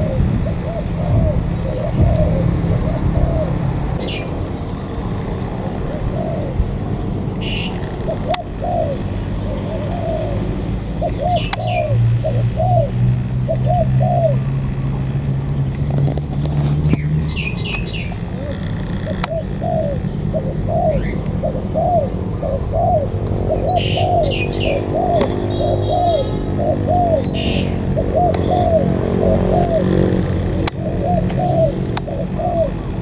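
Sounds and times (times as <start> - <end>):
doves cooing: 0.0 - 33.0
small birds chirping: 0.0 - 33.0.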